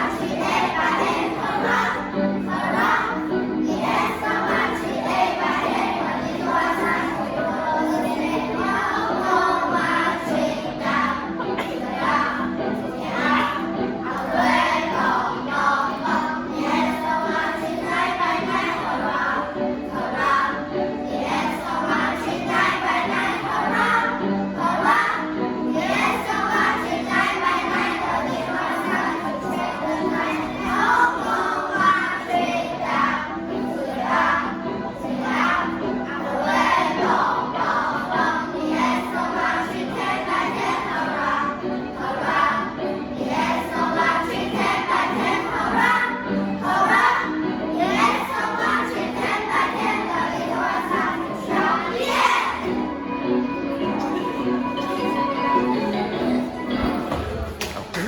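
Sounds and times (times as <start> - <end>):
children singing in unison: 0.0 - 58.0
music backing track: 0.0 - 58.0.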